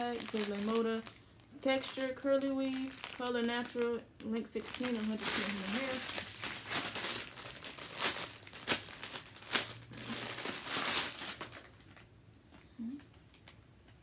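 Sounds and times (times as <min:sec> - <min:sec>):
plastic wrapping crinkling: 0:00.0 - 0:13.6.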